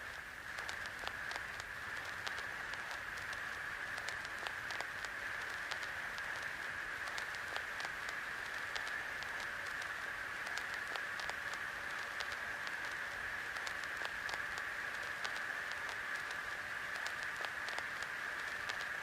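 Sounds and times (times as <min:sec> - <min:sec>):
irregular crackles: 0:00.0 - 0:19.0
static hiss: 0:00.0 - 0:19.0.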